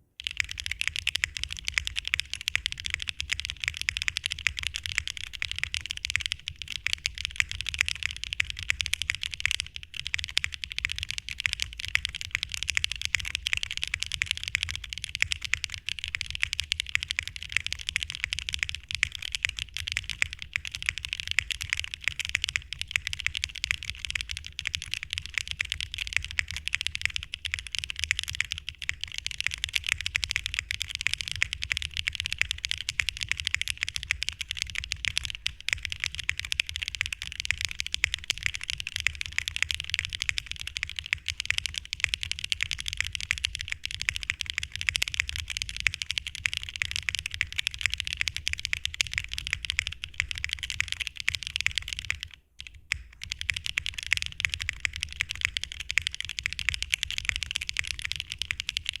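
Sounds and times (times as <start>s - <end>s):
keyboard typing clicks: 0.2s - 59.0s.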